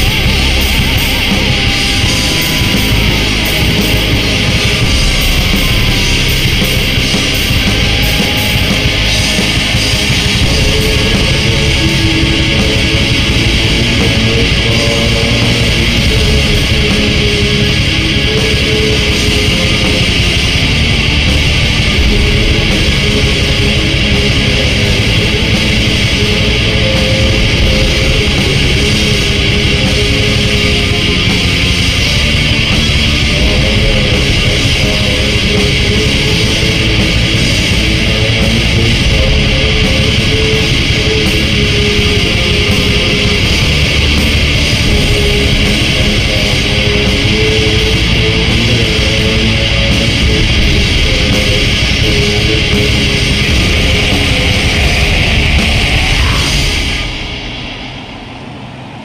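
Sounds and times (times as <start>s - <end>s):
sustained melody line: 0.0s - 57.4s
distorted electric guitars: 0.0s - 59.0s.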